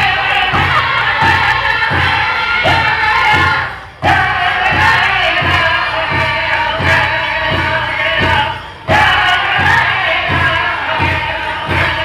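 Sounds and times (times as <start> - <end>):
large hand drum beat: 0.0 - 12.0
men singing high: 0.0 - 12.0.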